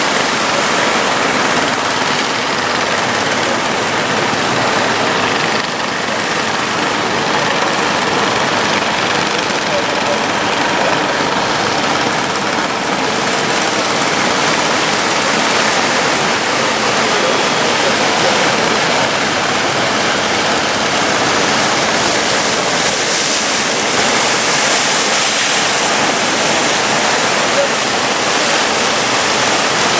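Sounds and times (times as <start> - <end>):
sea waves rushing: 0.0 - 29.9.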